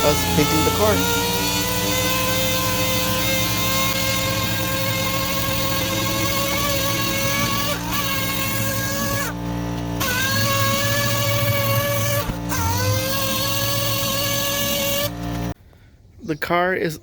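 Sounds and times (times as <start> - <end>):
electric sander whining: 0.0 - 15.6.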